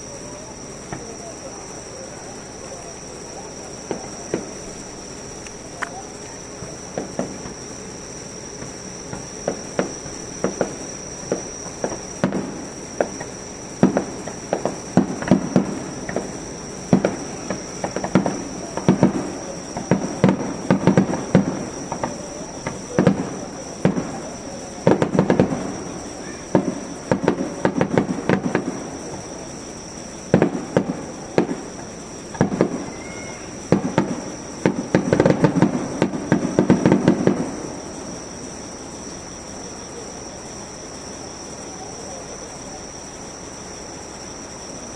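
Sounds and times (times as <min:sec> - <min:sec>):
fireworks bursting with bangs: 0:00.0 - 0:44.9
fireworks crackling: 0:00.0 - 0:44.9
insects chirring: 0:00.0 - 0:44.9.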